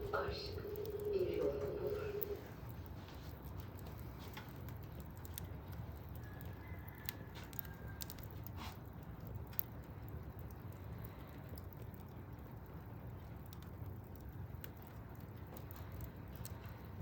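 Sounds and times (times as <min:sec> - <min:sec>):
fire pops and crackles: 0:00.0 - 0:17.0
wood fire rumbling: 0:00.0 - 0:17.0.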